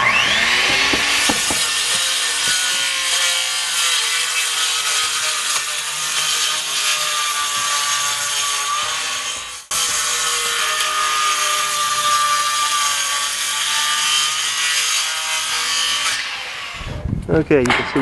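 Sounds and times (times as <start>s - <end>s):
circular saw cutting: 0.0s - 16.9s.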